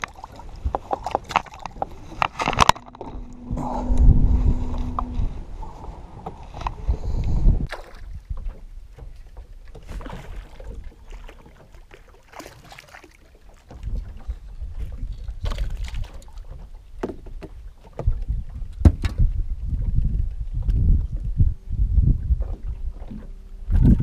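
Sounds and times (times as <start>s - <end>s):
wind rumbling on microphone: 0.0s - 11.2s, 13.7s - 24.0s.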